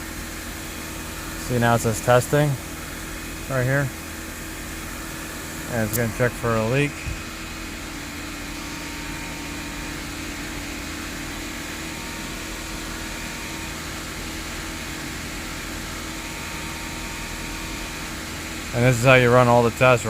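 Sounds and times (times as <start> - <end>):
car engine running steadily: 0.0 - 20.0.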